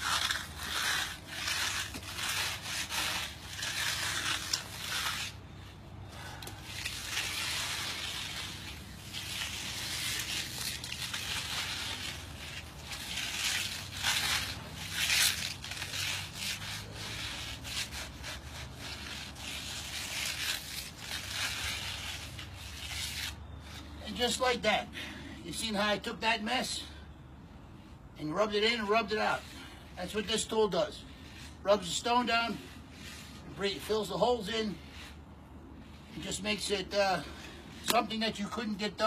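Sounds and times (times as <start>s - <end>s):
hand float scrubbing concrete: 0.0s - 24.7s, 28.3s - 39.0s.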